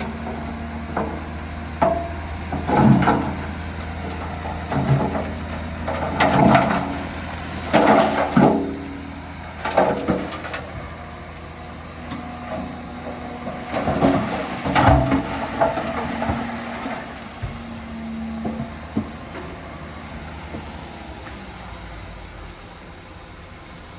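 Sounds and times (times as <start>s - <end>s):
diesel machinery engine drone: 0.0s - 23.9s.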